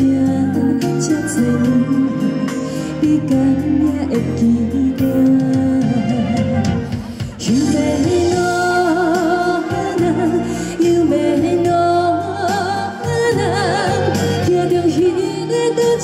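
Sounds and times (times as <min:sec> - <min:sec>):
band accompaniment: 0:00.0 - 0:16.0
woman singing with vibrato: 0:00.0 - 0:16.0.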